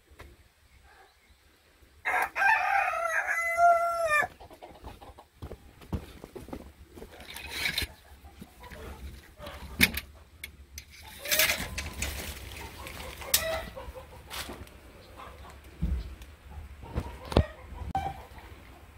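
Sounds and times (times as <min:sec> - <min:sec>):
chickens clucking: 0:03.0 - 0:06.2, 0:06.8 - 0:18.9.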